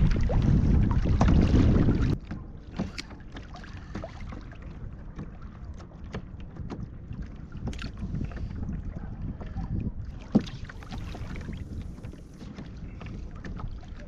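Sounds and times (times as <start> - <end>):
water lapping against kayak hull: 0.0 - 14.0
wind buffeting microphone: 0.0 - 14.0.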